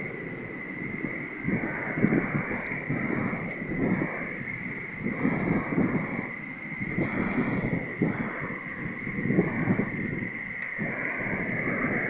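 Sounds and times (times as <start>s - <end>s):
steady hiss: 0.0s - 12.0s
wind buffeting microphone: 0.0s - 12.0s.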